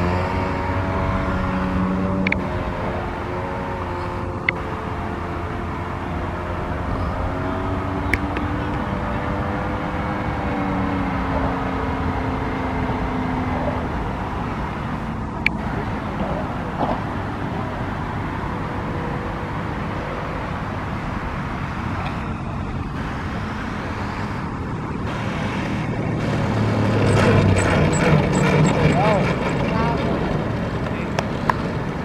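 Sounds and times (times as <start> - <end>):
plane rolling on runway: 0.0 - 32.0.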